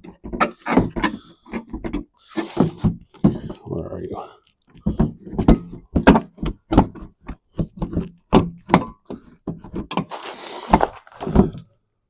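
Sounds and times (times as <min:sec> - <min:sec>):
hard parts knocking and clicking: 0:00.0 - 0:03.6, 0:04.7 - 0:11.7.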